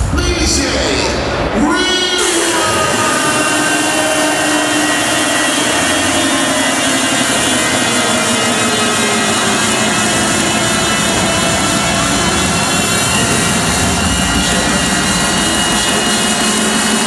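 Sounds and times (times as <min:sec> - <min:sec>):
techno synthesizer tones: 0:01.6 - 0:17.0.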